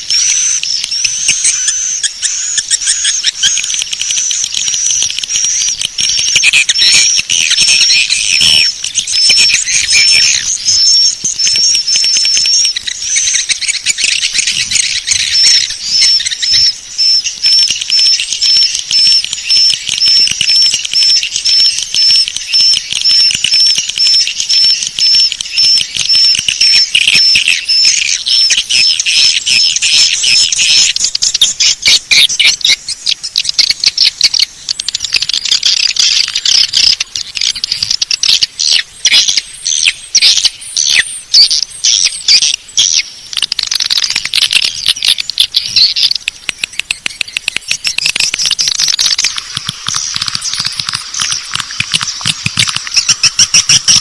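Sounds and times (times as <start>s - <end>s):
fast high pips: 0.0s - 54.0s
rapid clicking and chirping: 0.0s - 54.0s
swiftlets chittering and twittering: 0.0s - 54.0s.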